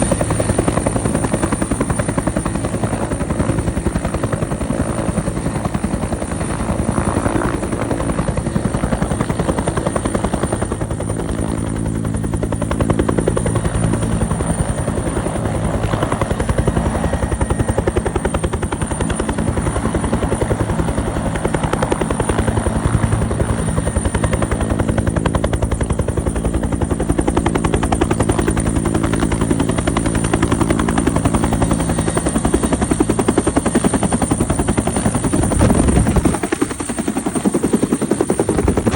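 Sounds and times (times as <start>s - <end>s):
helicopter rotor beating: 0.0s - 38.9s
turbine engine whine: 0.0s - 38.9s.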